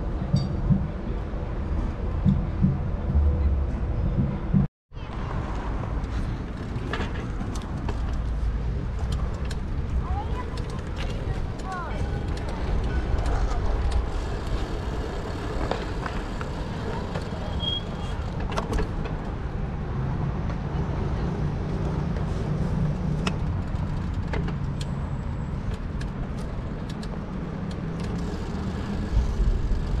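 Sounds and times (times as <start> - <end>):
cars passing rumble: 0.0 - 30.0.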